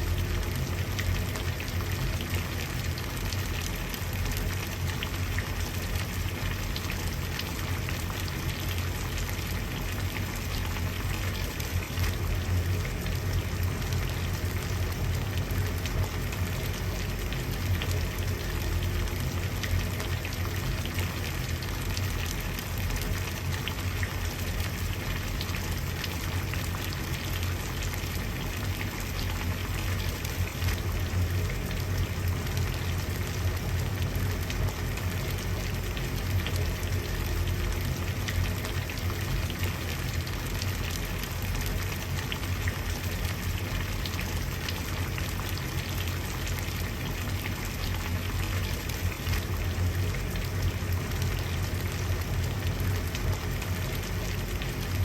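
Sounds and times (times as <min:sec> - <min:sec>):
water boiling and bubbling: 0:00.0 - 0:55.0.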